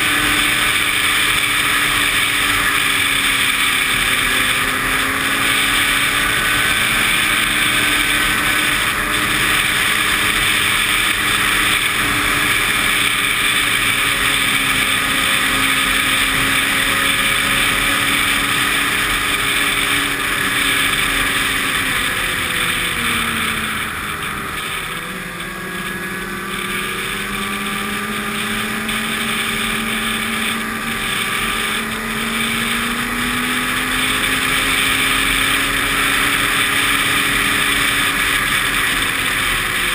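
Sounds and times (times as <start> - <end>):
snowmobile engine: 0.0 - 39.9
track and wind noise: 0.0 - 39.9.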